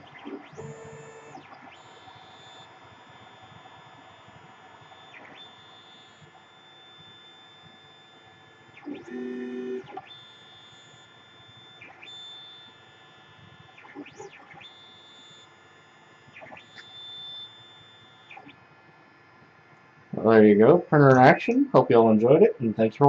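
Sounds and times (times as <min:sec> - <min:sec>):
stepper motor whine: 0:00.0 - 0:18.6.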